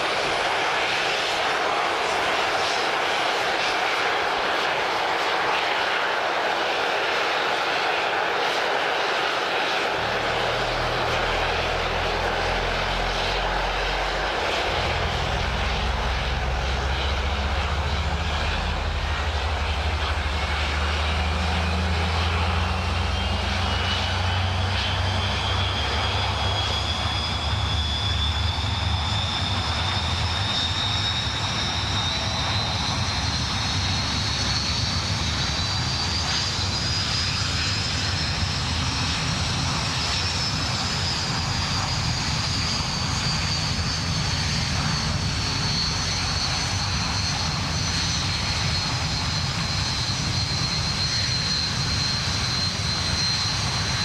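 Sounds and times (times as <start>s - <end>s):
jet engines rumbling with turbine whine: 0.0s - 54.0s.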